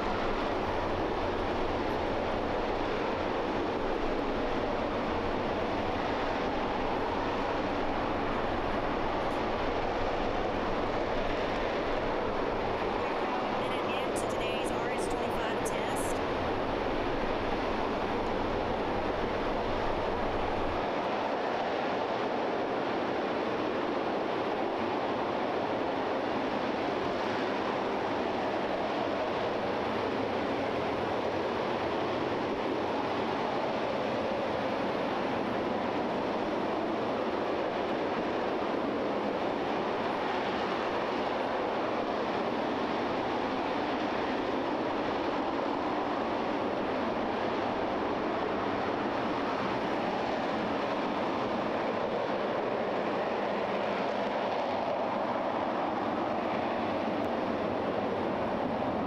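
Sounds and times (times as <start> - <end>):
rocket engine roar: 0.0 - 59.0.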